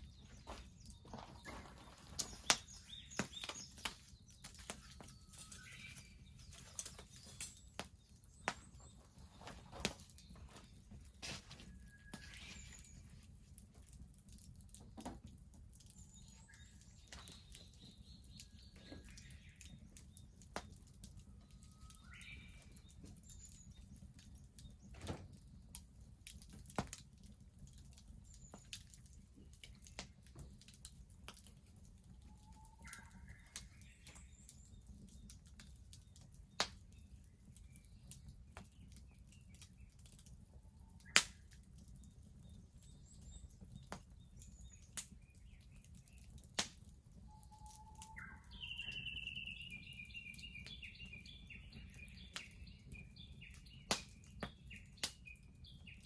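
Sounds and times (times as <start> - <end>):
bonfire crackling and popping: 0.0 - 56.0
small birds chirping: 0.0 - 56.0.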